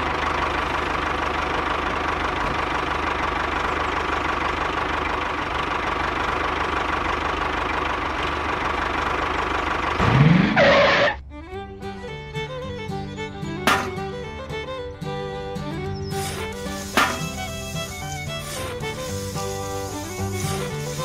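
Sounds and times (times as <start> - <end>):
tractor engine knocking drone: 0.0 - 21.0.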